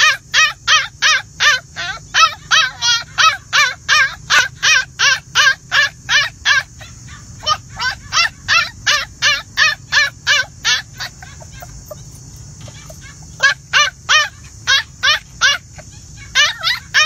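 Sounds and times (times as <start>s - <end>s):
puppy yelping: 0.0s - 17.0s.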